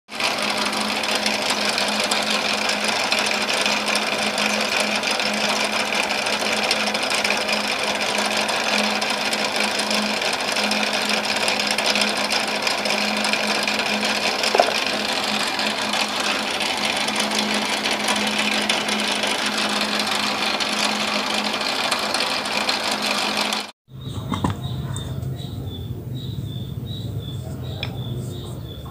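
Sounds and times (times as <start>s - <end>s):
small electric motor whirring: 0.1s - 23.7s.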